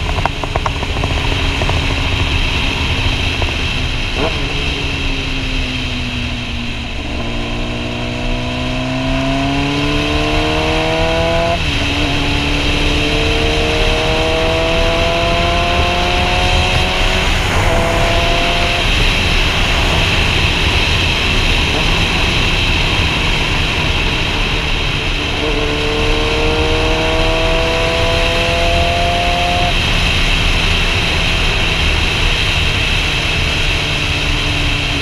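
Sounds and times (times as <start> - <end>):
motorcycle engine accelerating: 0.0 - 35.0
wind rush on microphone: 0.0 - 35.0.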